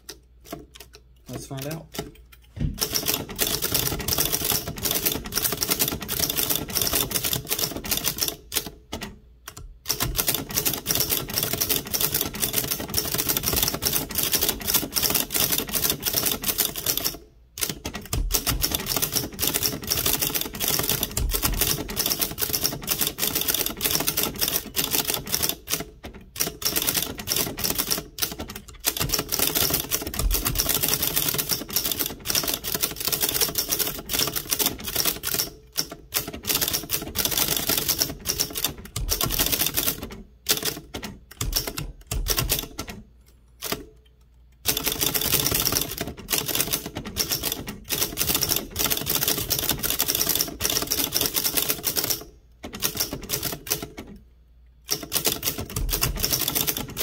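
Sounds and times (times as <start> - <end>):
typewriter typebars clattering: 2.8 - 9.1, 9.9 - 43.0, 44.7 - 54.1, 54.9 - 57.0.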